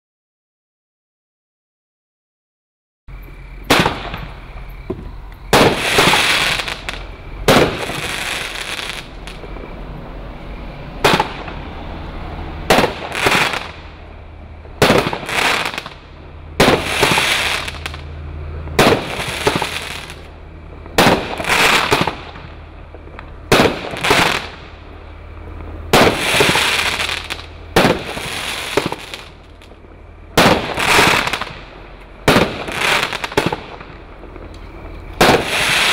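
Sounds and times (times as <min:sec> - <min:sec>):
fireworks banging and crackling: 0:03.6 - 0:18.1, 0:18.7 - 0:35.9.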